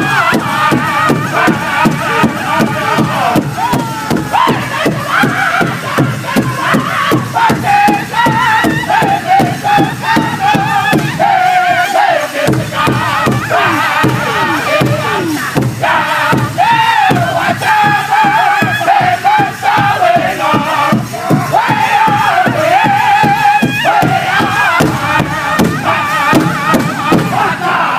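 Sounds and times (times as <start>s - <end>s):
big drum beat: 0.0s - 27.9s
group singing in high voices: 0.0s - 27.9s.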